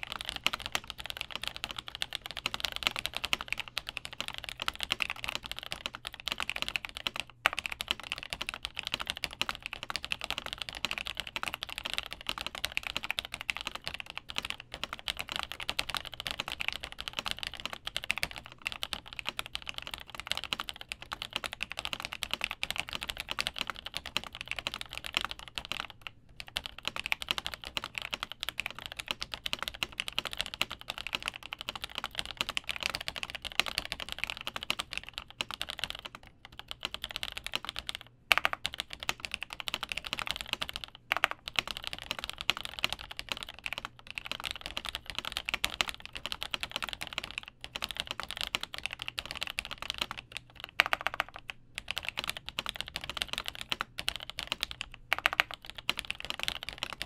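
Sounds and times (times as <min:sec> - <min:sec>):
fast typing on a keyboard: 0:00.0 - 0:57.0.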